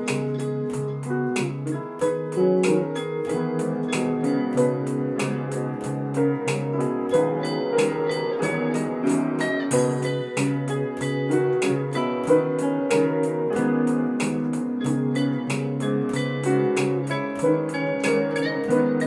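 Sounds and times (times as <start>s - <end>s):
keyboard chords: 0.0s - 19.0s
percussion beat: 0.0s - 19.0s.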